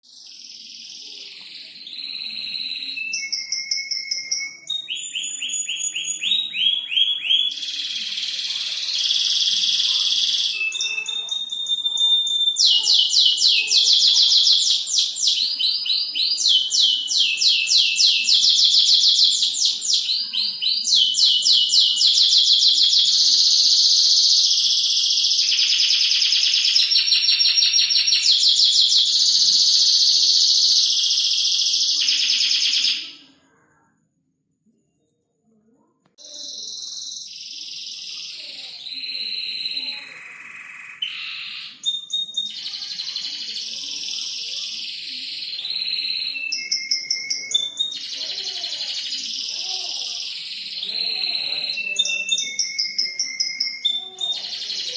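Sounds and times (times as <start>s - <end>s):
canary singing trills: 0.0s - 33.4s, 36.2s - 54.9s.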